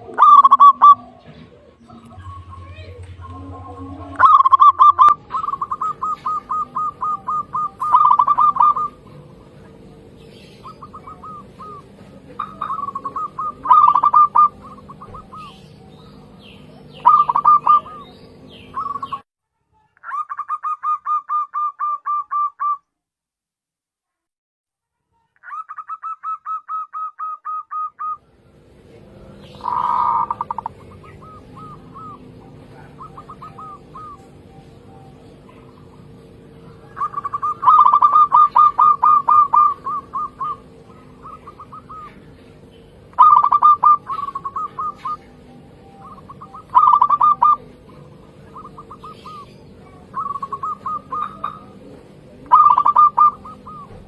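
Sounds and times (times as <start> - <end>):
doves cooing: 0.0 - 19.2, 20.0 - 22.8, 25.4 - 54.0
small bird chirping: 0.0 - 19.2, 29.2 - 54.0.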